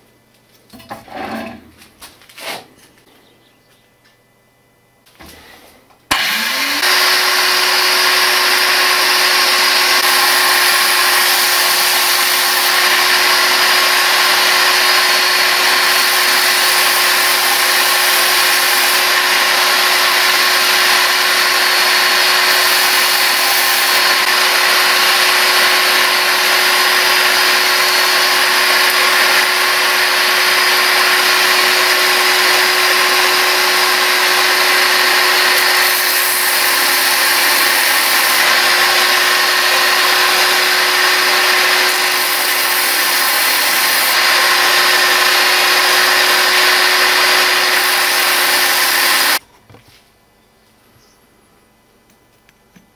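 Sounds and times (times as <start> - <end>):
angle grinder running: 6.1 - 49.4
grinding metal blade: 6.1 - 49.4.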